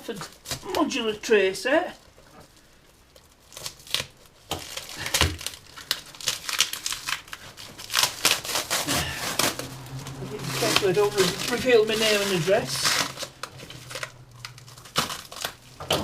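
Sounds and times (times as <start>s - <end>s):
packaging crinkling and tearing: 0.1s - 1.1s, 1.9s - 16.0s.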